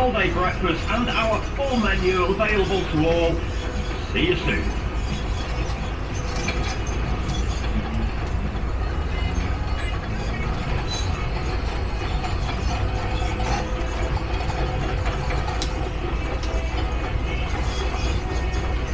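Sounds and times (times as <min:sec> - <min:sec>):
heavy machinery rumbling: 0:00.0 - 0:18.9
mechanical clatter and knocks: 0:00.8 - 0:18.9.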